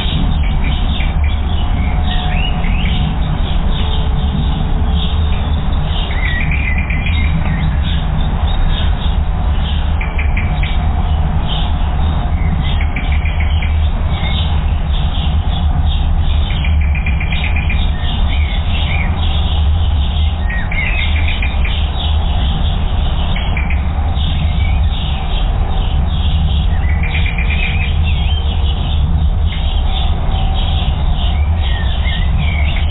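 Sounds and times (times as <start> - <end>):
small songbirds chirping: 0.0 - 32.9
steady low rumble: 0.0 - 32.9.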